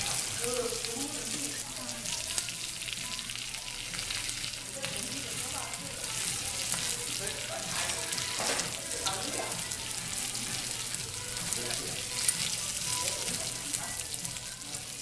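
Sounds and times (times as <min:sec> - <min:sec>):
meat sizzling with small pops: 0:00.0 - 0:15.0.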